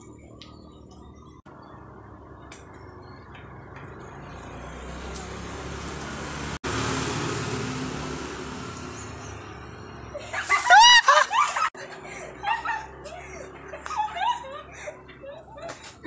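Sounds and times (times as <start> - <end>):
vehicle passing on road: 0.0 - 15.5.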